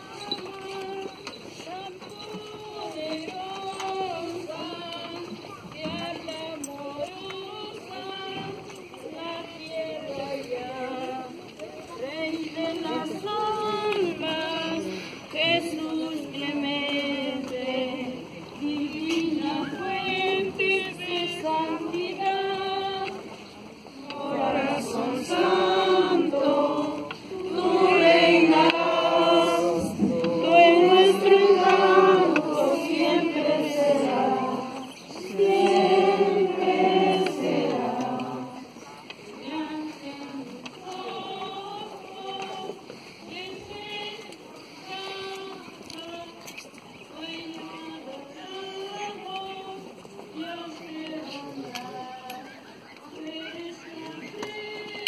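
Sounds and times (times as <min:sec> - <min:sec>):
group singing a slow hymn: 0:00.0 - 0:55.0.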